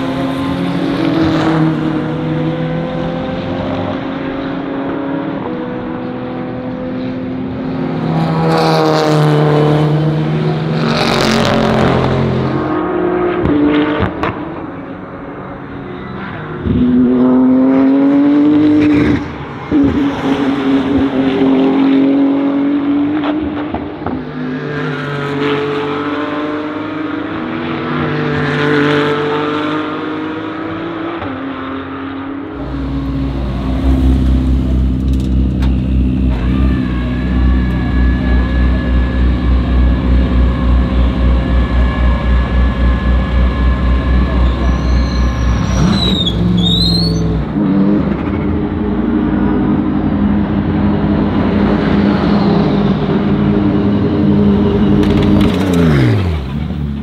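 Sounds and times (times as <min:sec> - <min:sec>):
race car engines passing by: 0:00.0 - 0:57.0.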